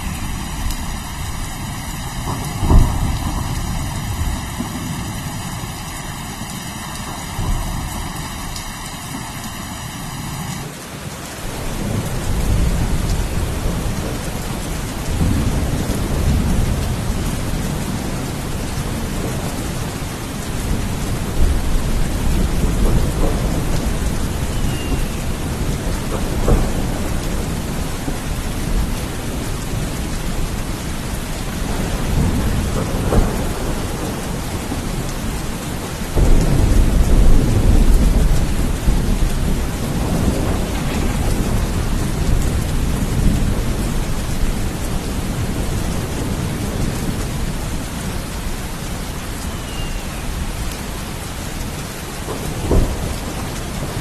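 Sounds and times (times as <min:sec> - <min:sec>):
rolling thunder: 0:00.0 - 0:09.3, 0:11.5 - 0:49.0, 0:52.2 - 0:54.0
steady rain: 0:00.0 - 0:54.0.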